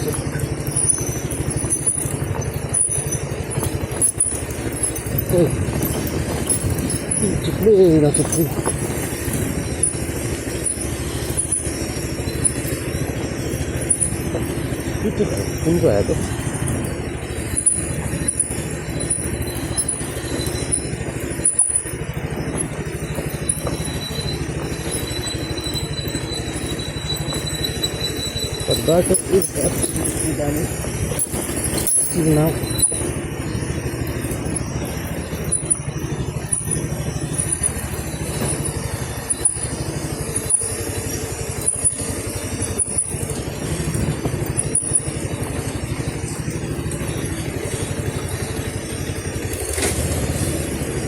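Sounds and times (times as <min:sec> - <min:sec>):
faint metallic clinks: 0:00.0 - 0:51.0
vehicle engine running: 0:00.0 - 0:51.0.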